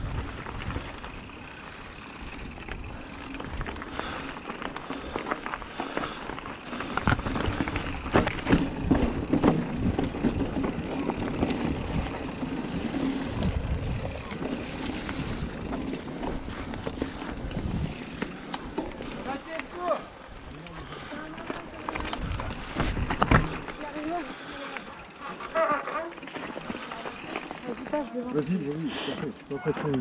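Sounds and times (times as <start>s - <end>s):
bike rattling and clattering: 0.0s - 30.0s
bike tyres on dirt: 0.0s - 30.0s.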